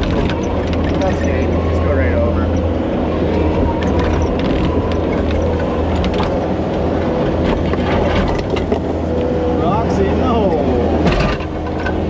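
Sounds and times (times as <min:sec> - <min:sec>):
knocks and clanks: 0:00.0 - 0:01.8, 0:02.4 - 0:09.3, 0:11.0 - 0:12.0
diesel engine running: 0:00.0 - 0:12.0.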